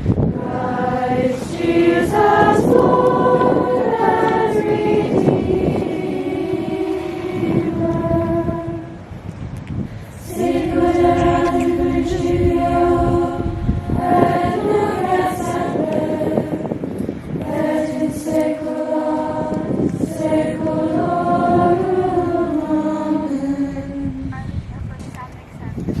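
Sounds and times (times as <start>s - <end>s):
choir singing: 0.1s - 9.2s, 10.2s - 24.3s.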